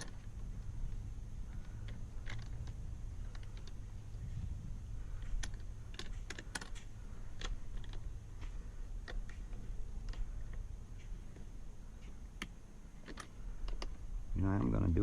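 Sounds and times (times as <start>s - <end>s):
light clicks of metal and plastic: 0.0s - 4.4s, 5.0s - 14.9s
steady low rumble: 0.0s - 15.0s.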